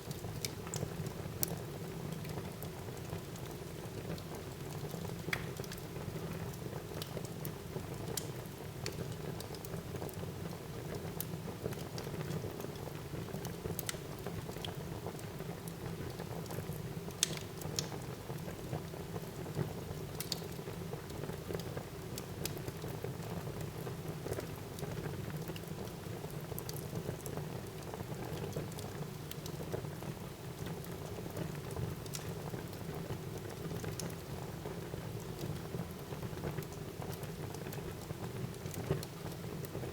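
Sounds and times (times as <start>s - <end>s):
wood fire crackling and popping: 0.1s - 10.1s, 10.9s - 39.9s.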